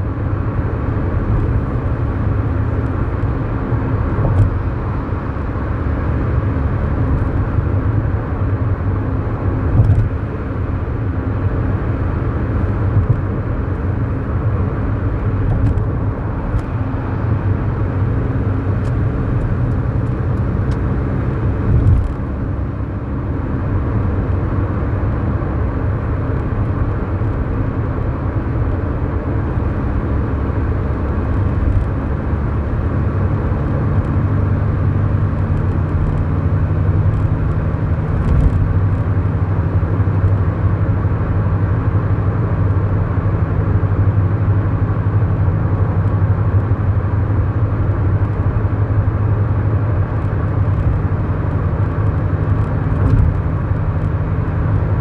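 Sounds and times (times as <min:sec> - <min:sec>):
car engine drone: 0:00.0 - 0:55.0
tyre and road noise: 0:00.0 - 0:55.0.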